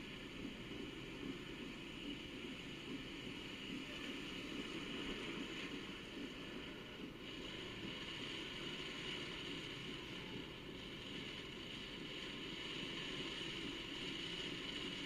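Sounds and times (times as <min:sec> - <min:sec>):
traffic hiss: 0:00.0 - 0:15.0.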